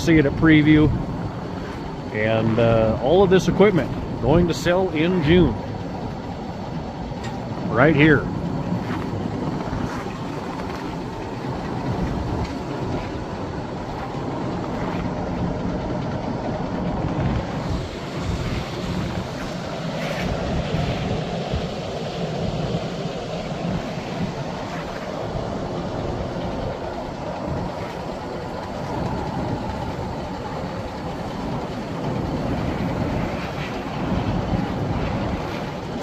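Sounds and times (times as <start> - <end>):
conveyor belt rolling rumble: 0.0 - 36.0.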